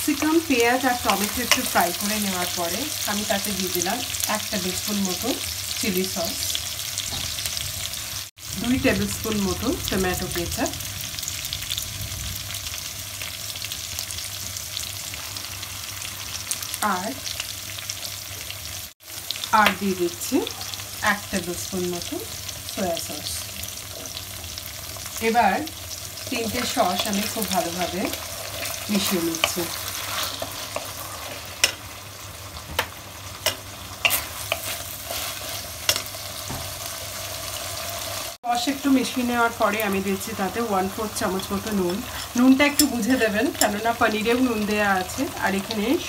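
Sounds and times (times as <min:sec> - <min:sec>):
vegetables sizzling in hot oil: 0:00.0 - 0:46.0.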